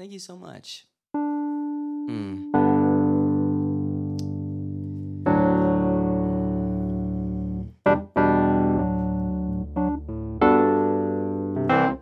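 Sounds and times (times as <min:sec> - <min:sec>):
electric piano chords: 0:01.2 - 0:12.0.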